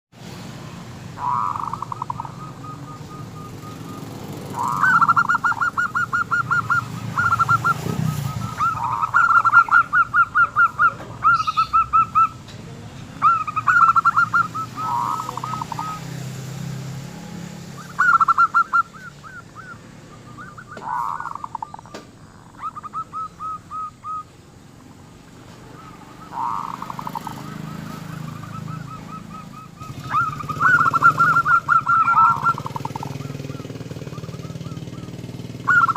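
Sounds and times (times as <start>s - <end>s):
doves cooing: 0.9s - 35.9s.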